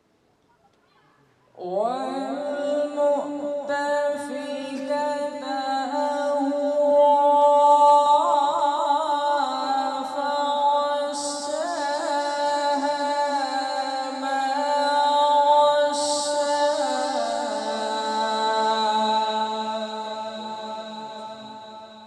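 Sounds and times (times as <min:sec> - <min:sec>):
man chanting melodically: 0:01.6 - 0:22.0.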